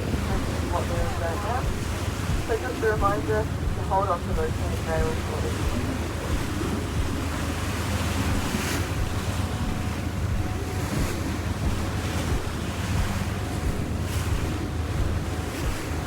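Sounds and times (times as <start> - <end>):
low boat drone: 0.0 - 16.0
rushing water: 0.0 - 16.0
wind buffeting microphone: 0.0 - 16.0.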